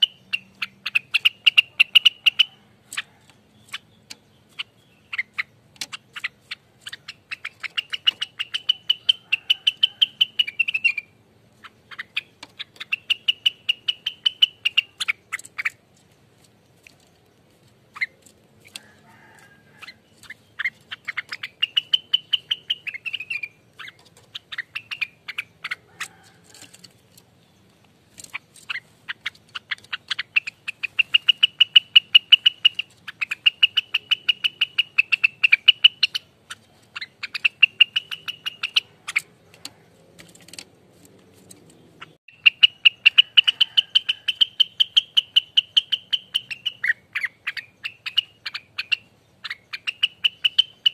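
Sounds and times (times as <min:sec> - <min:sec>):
songbird rapid rolling song: 0:00.0 - 0:50.9.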